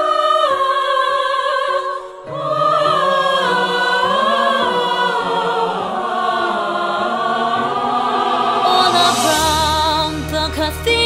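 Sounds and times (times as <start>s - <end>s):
women singing wordless harmonies: 0.0s - 11.0s.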